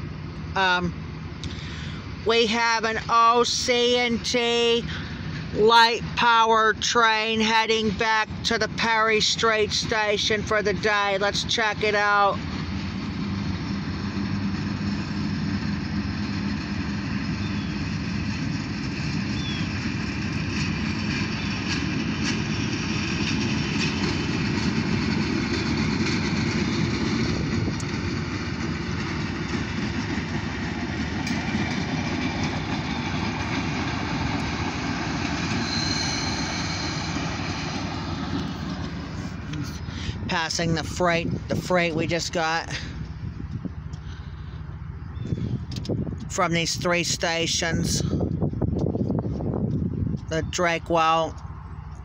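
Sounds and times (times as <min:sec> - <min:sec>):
diesel locomotive engine drone: 0:00.0 - 0:52.0
rolling rail noise: 0:00.0 - 0:52.0.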